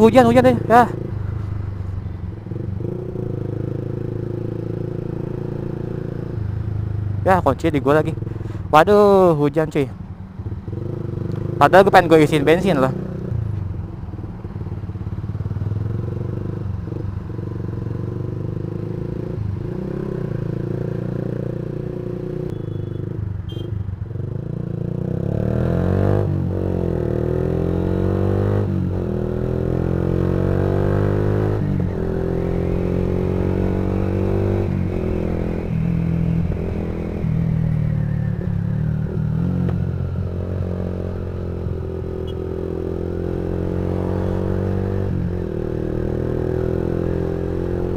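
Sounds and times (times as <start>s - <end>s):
motorcycle engine revving: 0.0s - 8.6s, 9.2s - 13.6s, 14.2s - 47.9s.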